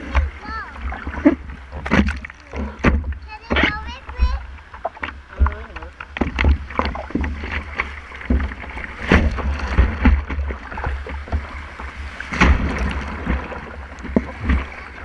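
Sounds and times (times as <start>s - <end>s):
surf rushing and splashing: 0.0s - 15.0s.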